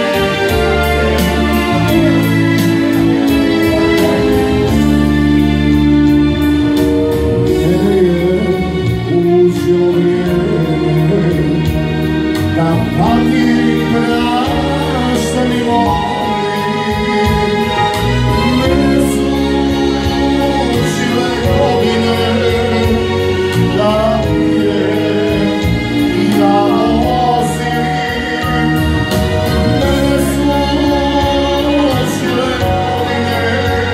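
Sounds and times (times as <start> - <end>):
man singing into microphone: 0.0 - 5.1, 7.2 - 33.9
keyboard chords and bass: 0.0 - 33.9.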